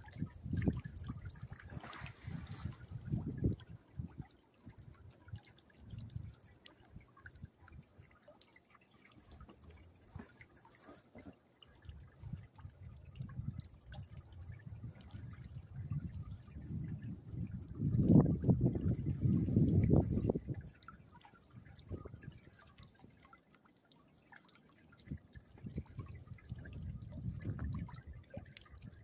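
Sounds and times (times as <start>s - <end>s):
drip clicks: 0.0s - 29.0s
water trickling from fountain: 0.0s - 29.0s.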